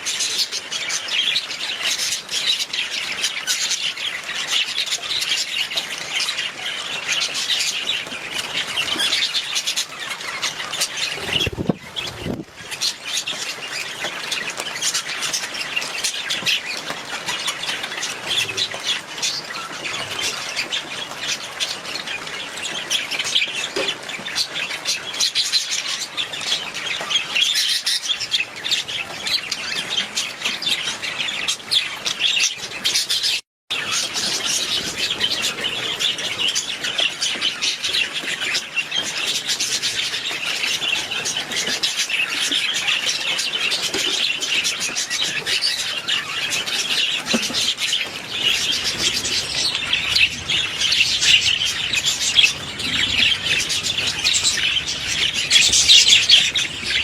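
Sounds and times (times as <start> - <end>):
budgerigars chattering and chirping: 0.1 - 25.9, 27.2 - 57.0.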